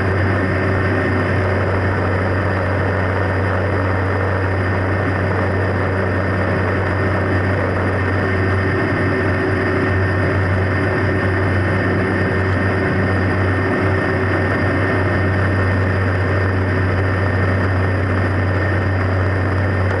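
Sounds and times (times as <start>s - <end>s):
turboprop engine droning: 0.0s - 20.0s.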